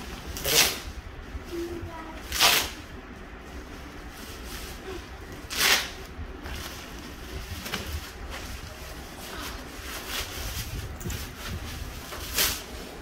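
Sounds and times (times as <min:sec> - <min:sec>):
plastic sack rustling: 0:00.0 - 0:13.0.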